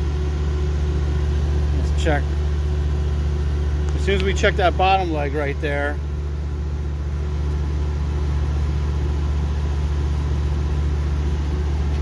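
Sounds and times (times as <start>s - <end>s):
machinery droning hum: 0.0s - 12.0s.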